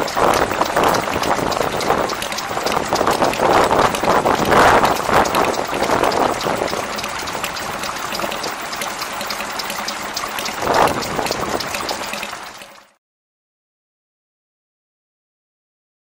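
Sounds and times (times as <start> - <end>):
small engine regular beat: 0.0 - 13.0.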